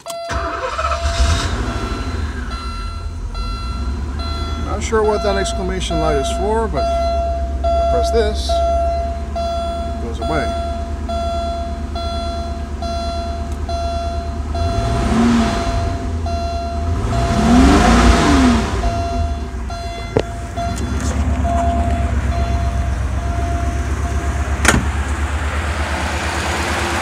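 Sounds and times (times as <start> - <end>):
dashboard warning beeper: 0.0 - 24.8
car engine revving and idling: 0.0 - 27.0.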